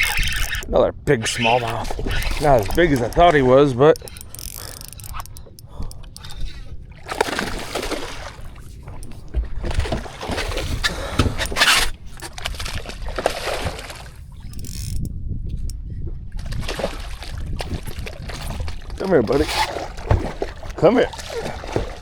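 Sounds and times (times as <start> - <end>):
water splashing against boat: 0.0 - 22.0
wind rumble on microphone: 0.0 - 22.0.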